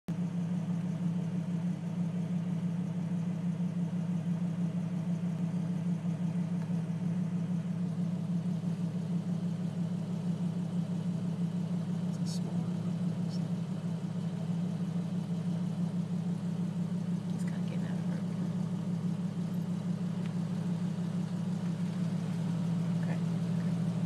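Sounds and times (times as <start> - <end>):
low mechanical hum: 0.1 - 24.0.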